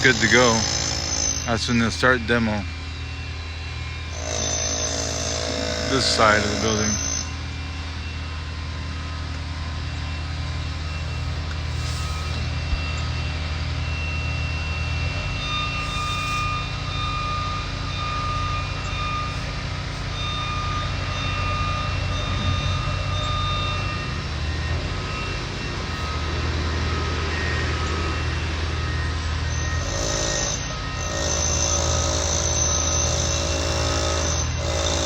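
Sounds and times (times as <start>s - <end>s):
backup alarm beeping: 0.0s - 35.0s
diesel engine running: 0.0s - 35.0s.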